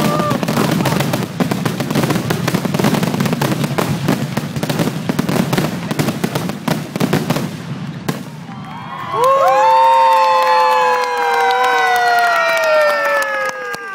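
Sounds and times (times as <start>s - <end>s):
fireworks bursting and crackling: 0.0s - 13.9s.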